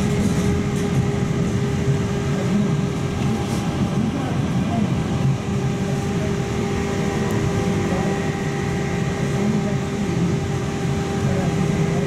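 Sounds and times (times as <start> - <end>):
trolleybus running rumble: 0.0 - 12.0.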